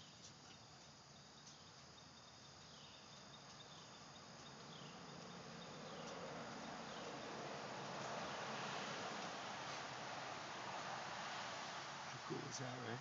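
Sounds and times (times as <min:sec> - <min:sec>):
faint hiss: 0:00.0 - 0:13.0
insect chorus trilling: 0:00.0 - 0:13.0.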